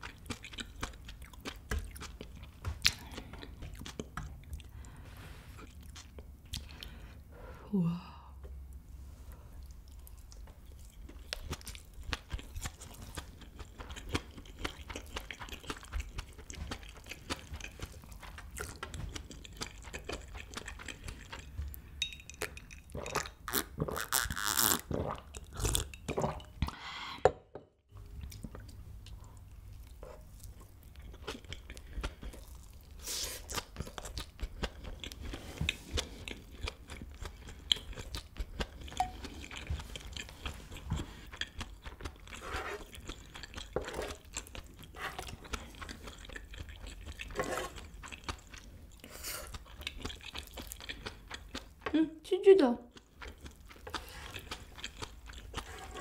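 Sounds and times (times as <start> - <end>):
close-miked chewing: 0.0 - 5.0, 9.5 - 26.4, 27.9 - 51.9, 52.9 - 56.0.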